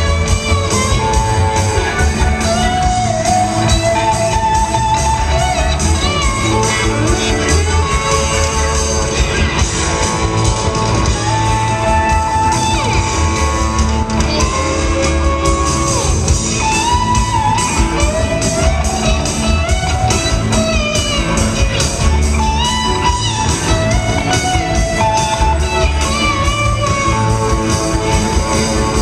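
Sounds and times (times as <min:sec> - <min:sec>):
lead electric guitar bending notes: 0:00.0 - 0:29.0
live rock band playing: 0:00.0 - 0:29.0.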